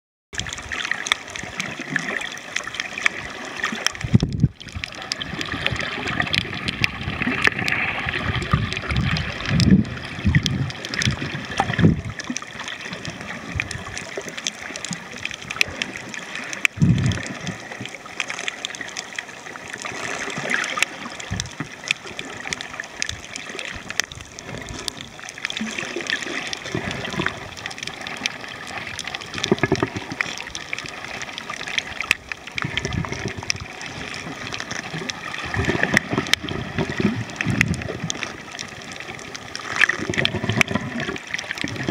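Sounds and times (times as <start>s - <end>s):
fine underwater clicks: 0.4s - 41.9s
low water surges: 0.4s - 41.9s
underwater gurgling and sloshing: 0.4s - 41.9s.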